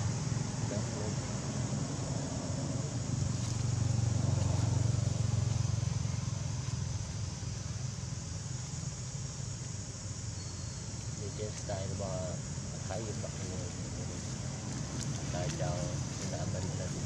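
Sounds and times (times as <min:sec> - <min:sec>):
low engine-like rumble: 0:00.0 - 0:17.0
steady hiss: 0:00.0 - 0:17.0.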